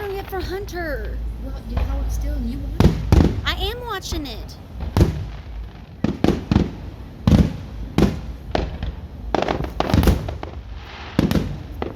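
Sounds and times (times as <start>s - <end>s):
fireworks bangs and pops: 0.0s - 11.9s.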